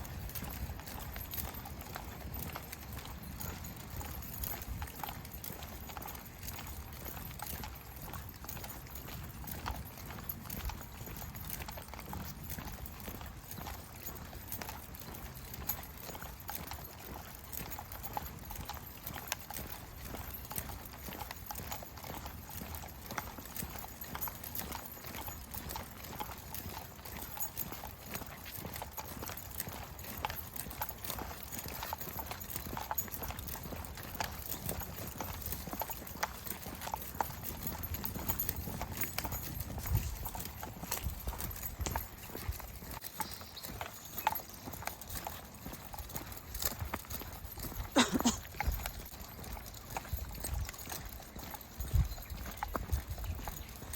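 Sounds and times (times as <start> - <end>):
footsteps of walker and dogs: 0.0 - 53.9.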